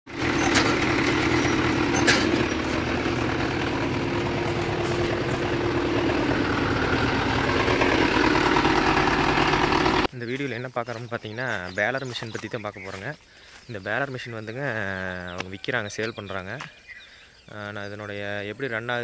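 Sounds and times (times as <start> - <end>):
tractor diesel engine running: 0.1 - 16.6.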